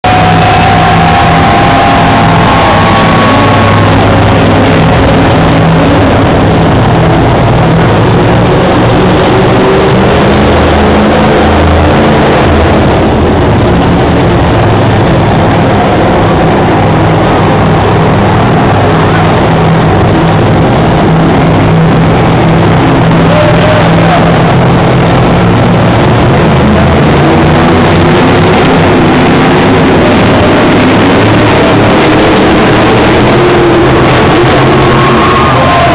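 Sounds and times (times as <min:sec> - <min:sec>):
monster truck engine running loud: 0:00.0 - 0:35.9.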